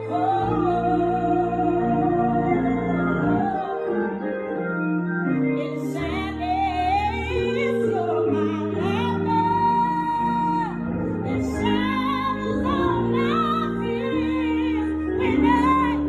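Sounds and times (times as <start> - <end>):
person singing with vibrato: 0.0 - 4.7, 5.6 - 16.0
sustained keyboard chords: 0.0 - 16.0.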